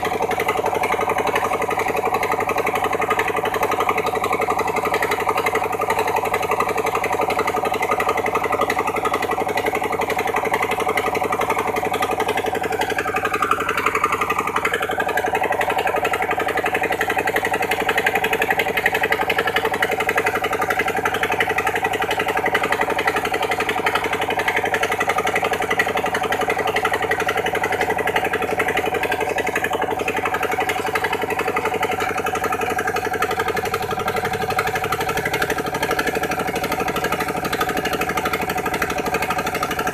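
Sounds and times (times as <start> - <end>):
pump engine running steadily: 0.0 - 39.9.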